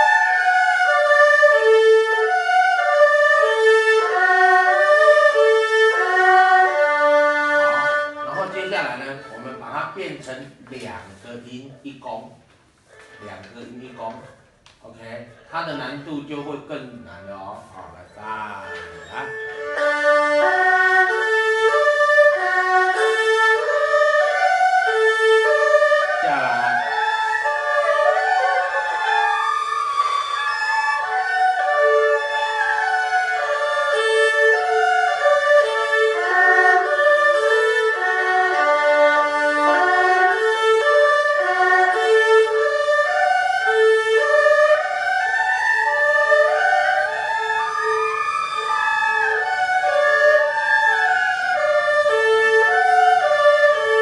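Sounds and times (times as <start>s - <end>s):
erhu playing arpeggios: 0.0s - 11.6s, 12.8s - 14.2s, 15.4s - 54.0s.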